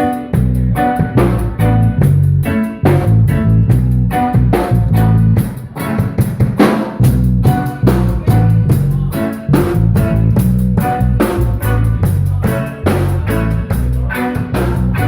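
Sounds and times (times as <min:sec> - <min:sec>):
bass line: 0:00.0 - 0:15.0
drum kit beat: 0:00.0 - 0:15.0
guitar: 0:00.0 - 0:15.0.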